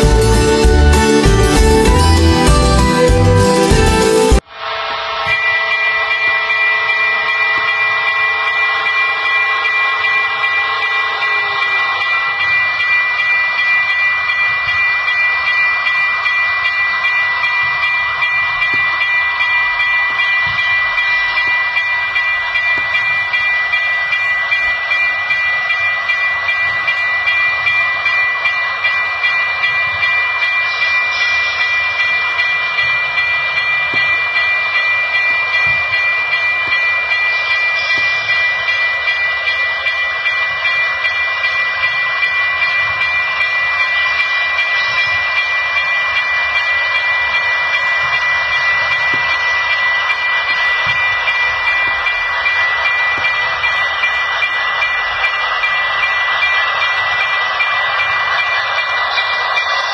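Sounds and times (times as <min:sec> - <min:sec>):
train running: 0:00.0 - 0:59.9
constant high whine: 0:04.1 - 0:59.9.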